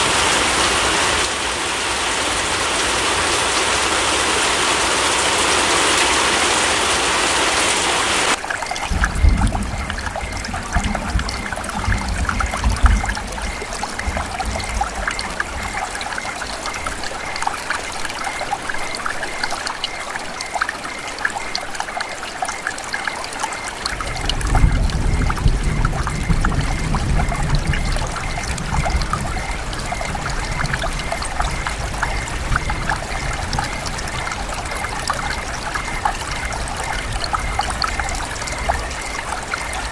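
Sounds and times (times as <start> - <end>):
rain dripping and trickling: 0.0 - 39.9
rain falling in a forest: 0.0 - 39.9.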